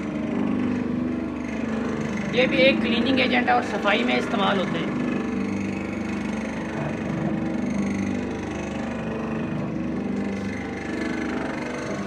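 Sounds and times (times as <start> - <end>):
powder mixer motor humming: 0.0 - 12.0.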